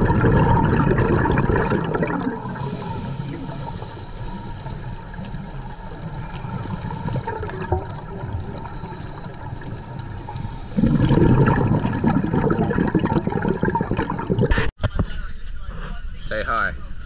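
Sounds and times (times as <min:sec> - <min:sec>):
gurgling rush of bubbles: 0:00.0 - 0:14.7.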